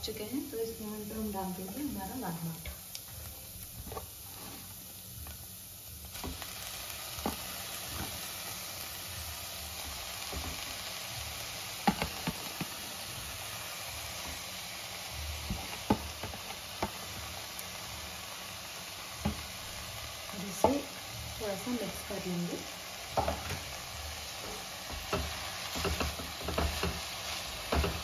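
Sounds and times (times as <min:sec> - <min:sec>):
leaves sizzling in hot oil: 0:00.0 - 0:28.0.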